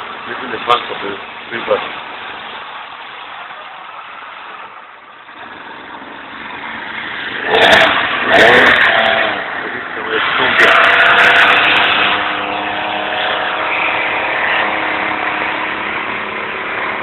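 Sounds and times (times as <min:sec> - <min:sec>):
speed boat engine revving: 0:00.0 - 0:17.0.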